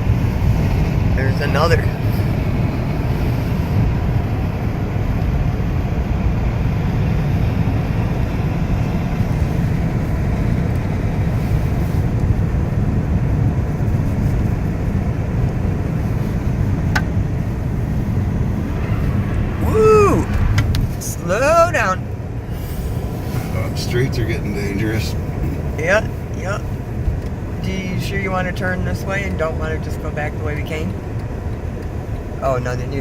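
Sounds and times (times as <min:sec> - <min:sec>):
car cabin road noise: 0:00.0 - 0:33.0.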